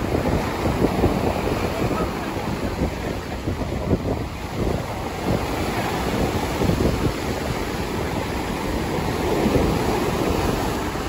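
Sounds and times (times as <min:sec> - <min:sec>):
waves breaking on a beach: 0:00.0 - 0:11.0
wind buffeting microphone: 0:00.0 - 0:11.0.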